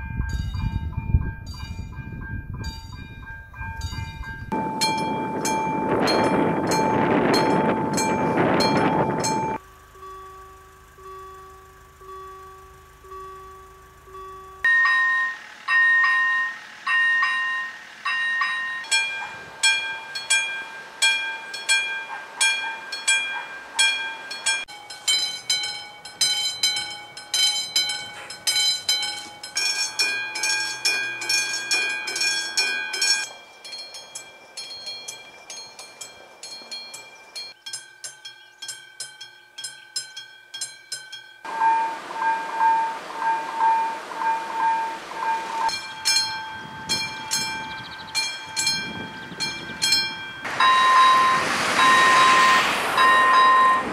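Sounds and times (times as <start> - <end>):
passing train running noise: 0.0 - 37.5, 41.5 - 53.9
level crossing warning bells: 0.0 - 53.9.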